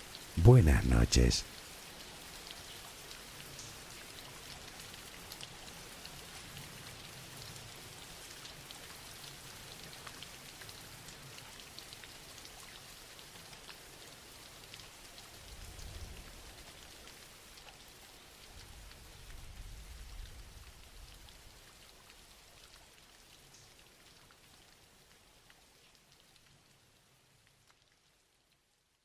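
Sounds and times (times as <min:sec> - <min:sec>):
steady rainfall: 0:00.0 - 0:28.6.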